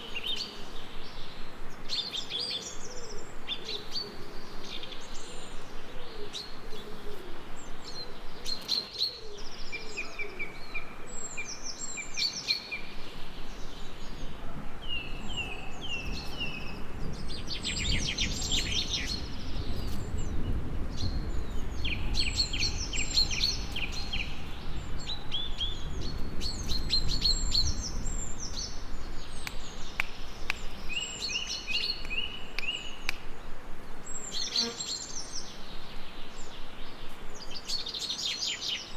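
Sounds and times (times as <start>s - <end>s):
songbirds singing and trilling: 0.0s - 38.9s.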